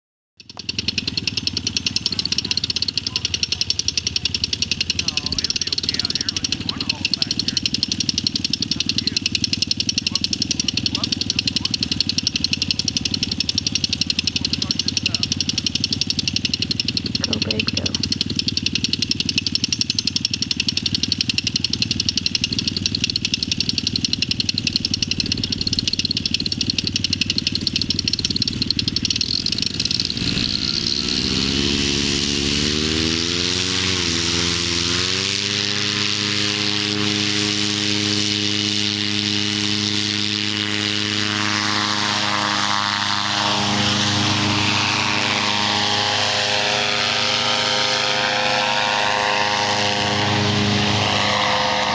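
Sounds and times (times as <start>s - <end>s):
paramotor engine and propeller: 0.4s - 51.9s.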